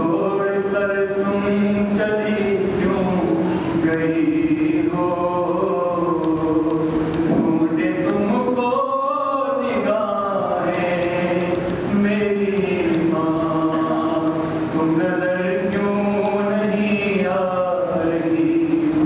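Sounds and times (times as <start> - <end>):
man chanting: 0.0 - 19.0.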